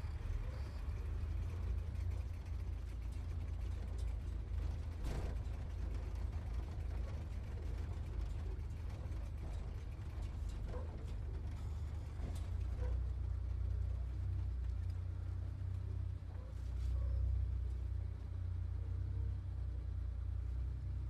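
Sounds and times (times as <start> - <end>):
sports car engine rumble: 0.0 - 21.0.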